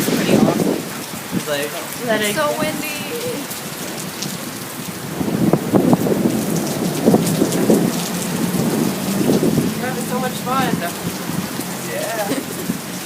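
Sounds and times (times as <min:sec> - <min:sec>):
uneven thunder rumble: 0:00.0 - 0:02.0, 0:03.1 - 0:11.7
heavy rain falling: 0:00.0 - 0:13.0
strong wind: 0:00.0 - 0:13.0.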